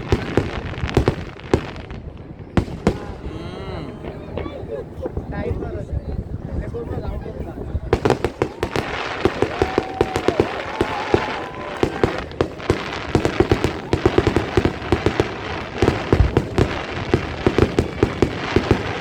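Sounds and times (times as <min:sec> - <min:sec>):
fireworks crackling: 0:00.0 - 0:03.4, 0:07.0 - 0:19.0.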